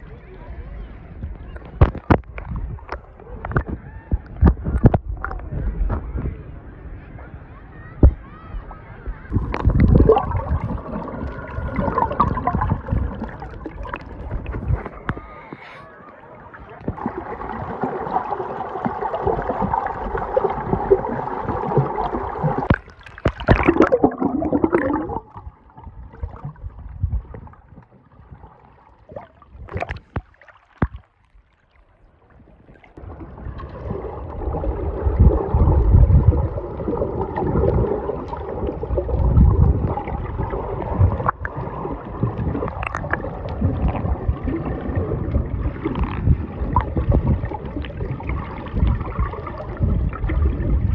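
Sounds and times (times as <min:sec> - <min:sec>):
water sloshing and gurgling: 0:01.2 - 0:06.4, 0:09.1 - 0:50.9.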